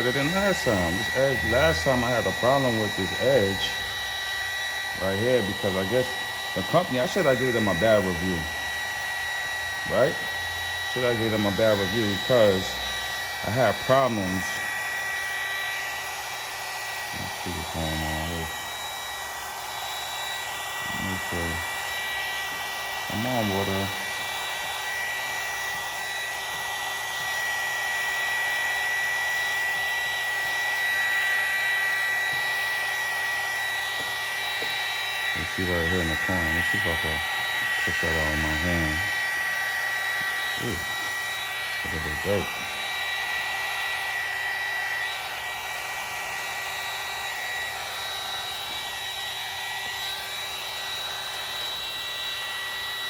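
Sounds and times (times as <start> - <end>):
heat gun blowing: 0.0 - 53.0.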